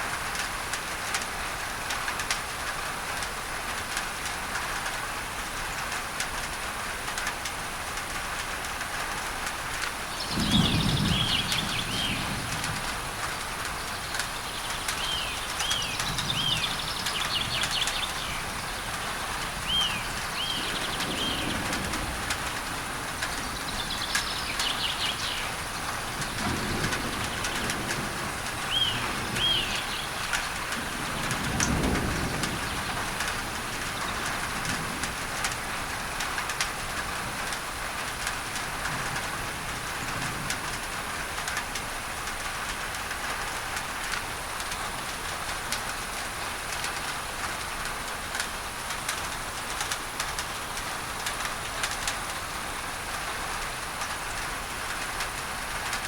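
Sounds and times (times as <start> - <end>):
rain on a tin roof: 0.0 - 56.0
low rumble of thunder: 6.3 - 56.0.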